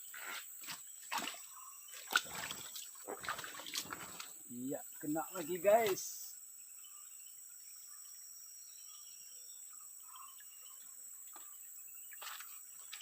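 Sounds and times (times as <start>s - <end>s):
faint bird chirps: 1.4s - 13.0s.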